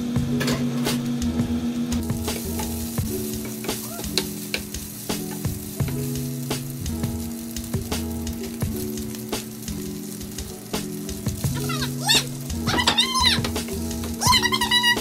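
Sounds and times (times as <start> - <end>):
background music with held notes: 0.0 - 15.0
meat sizzling in a frying pan: 2.0 - 15.0.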